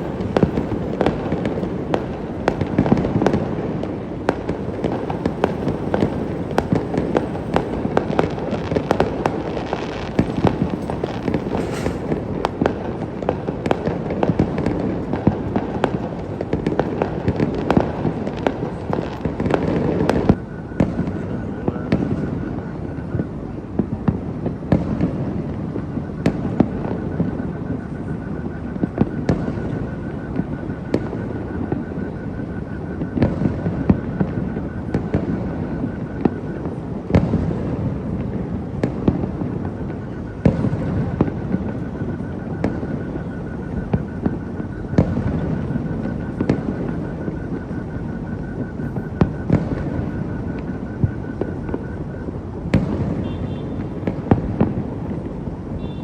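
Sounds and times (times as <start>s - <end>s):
fireworks bangs: 0.0s - 56.0s
fireworks rumble and crackle: 0.0s - 56.0s.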